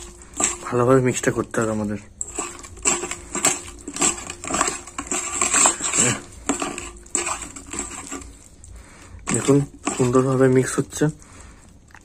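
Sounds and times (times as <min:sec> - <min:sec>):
wet squelching of chicken in bowl: 0:00.0 - 0:12.0.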